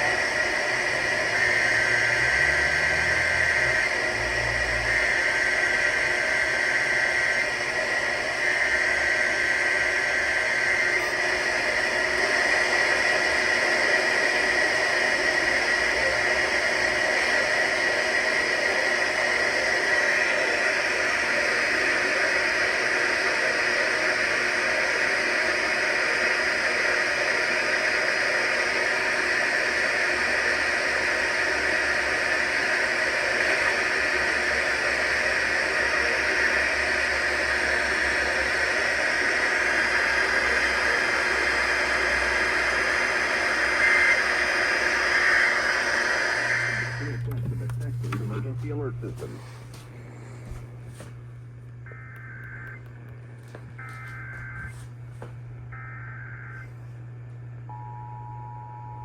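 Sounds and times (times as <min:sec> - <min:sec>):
faint steady tones: 0:00.0 - 0:50.4, 0:51.6 - 0:59.0
radio static hiss: 0:00.0 - 0:57.6.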